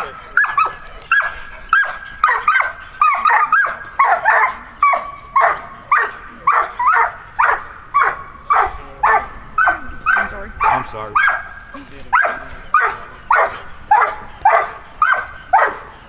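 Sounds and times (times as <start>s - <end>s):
dog barking: 0.0s - 15.9s.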